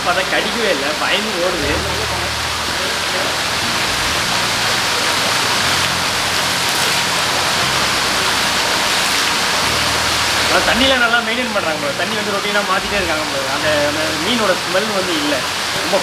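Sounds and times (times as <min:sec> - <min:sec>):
water jets splashing into pool: 0:00.0 - 0:16.0.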